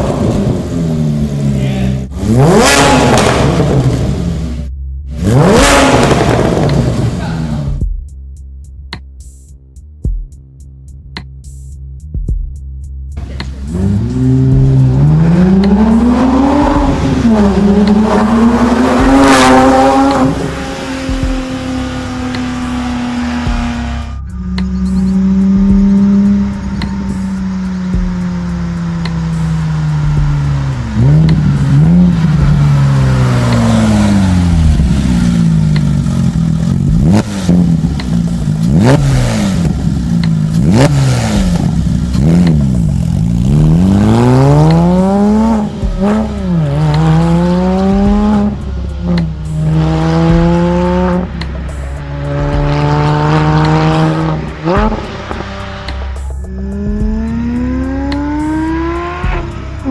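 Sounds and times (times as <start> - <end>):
sports car engine revving: 0.0 - 7.8, 13.1 - 59.9.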